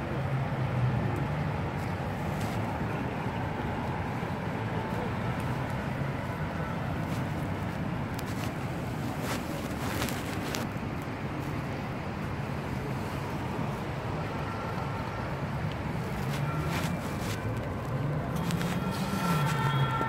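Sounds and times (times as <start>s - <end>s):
low engine hum: 0.0s - 20.0s
traffic noise: 0.0s - 20.0s.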